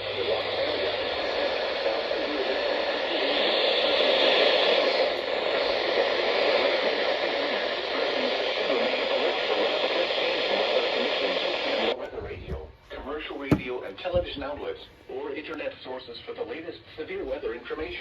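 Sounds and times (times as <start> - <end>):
faint steady whine: 0.0 - 18.0
radio static hiss: 0.0 - 18.0.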